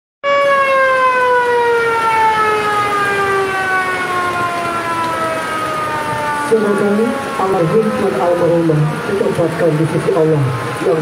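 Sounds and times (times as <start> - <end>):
siren with sinking pitch: 0.2 - 11.0.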